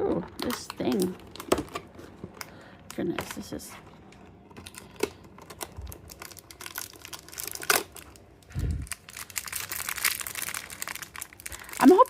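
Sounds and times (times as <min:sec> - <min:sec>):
packaging crinkling: 0:00.2 - 0:12.0.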